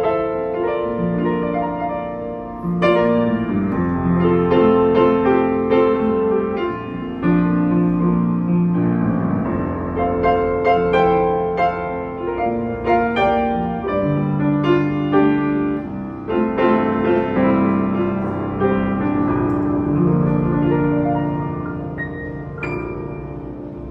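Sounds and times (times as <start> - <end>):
upright piano playing: 0.0 - 23.9.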